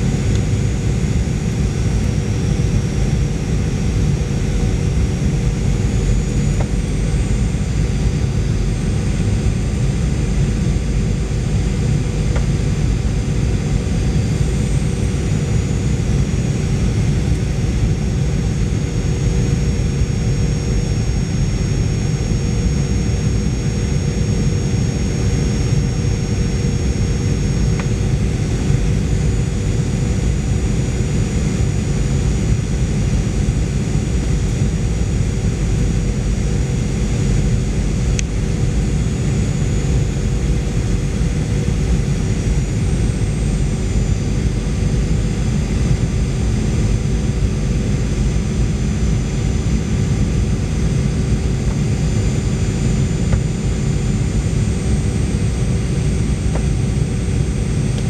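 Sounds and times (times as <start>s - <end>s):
aircraft cabin rumble: 0.0s - 58.0s
jet engines whining: 0.0s - 58.0s.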